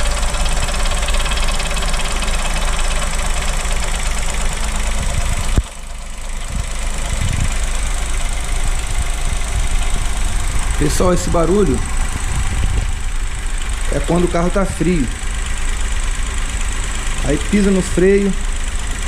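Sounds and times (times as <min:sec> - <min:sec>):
car engine idling: 0:00.0 - 0:19.0
hiss and knocking from engine: 0:00.0 - 0:19.0.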